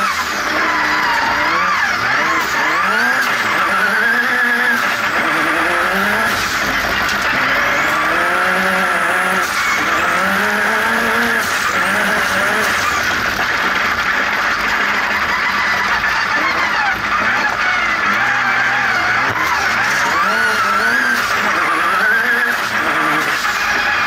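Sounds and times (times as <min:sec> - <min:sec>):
turbocharged engine accelerating: 0:00.0 - 0:24.0.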